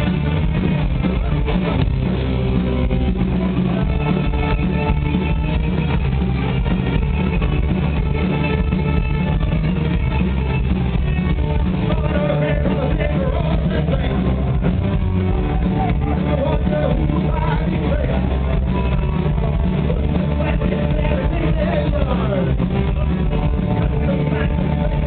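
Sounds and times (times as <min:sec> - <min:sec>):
punk rock band playing: 0:00.0 - 0:25.0.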